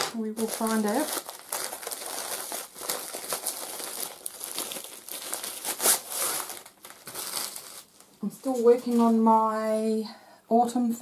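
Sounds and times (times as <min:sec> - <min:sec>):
packaging bag crinkling: 0:00.0 - 0:09.2.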